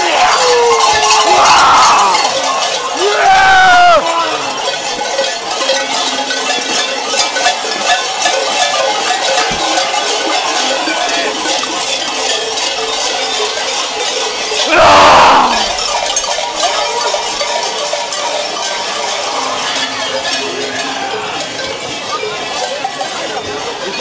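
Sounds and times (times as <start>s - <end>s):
large bells clanging: 0.0s - 24.0s.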